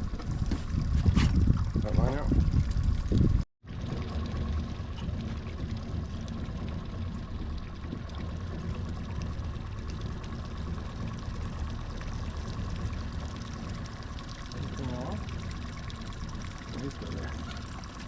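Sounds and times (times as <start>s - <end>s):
outboard motor running: 0.0s - 18.0s
water rushing along hull: 0.0s - 18.0s.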